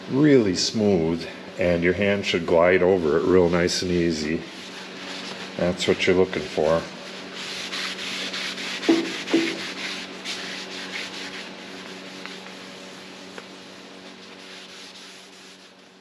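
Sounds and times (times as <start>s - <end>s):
paper towel rubbing on metal: 1.8s - 16.0s.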